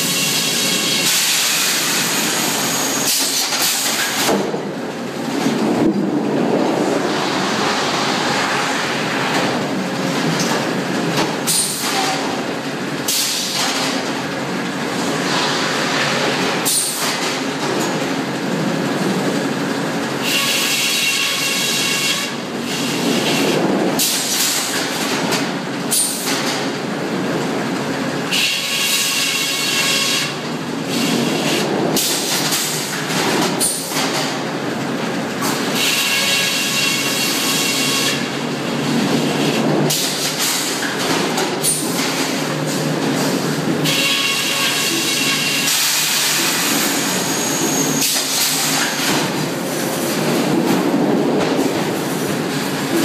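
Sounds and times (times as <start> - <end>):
mill machinery running: 0.0 - 53.0.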